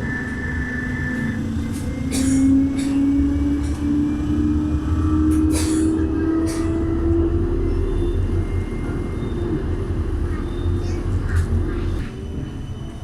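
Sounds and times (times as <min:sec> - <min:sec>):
tram motor whine: 0:00.0 - 0:13.0.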